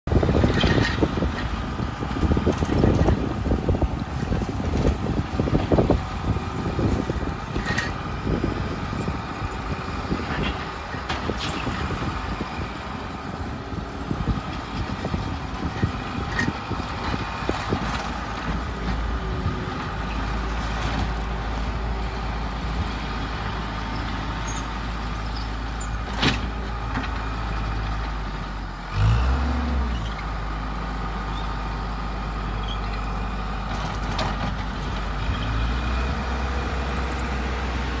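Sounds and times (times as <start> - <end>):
diesel engine running: 0.1 - 38.0.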